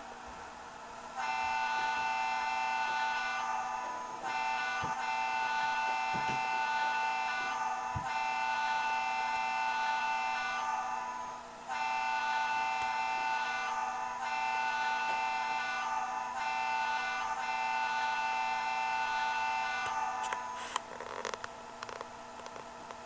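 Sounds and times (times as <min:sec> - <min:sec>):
buzzy engine hum from speaker: 0:00.0 - 0:23.0
model train wheels clicking: 0:01.2 - 0:23.0.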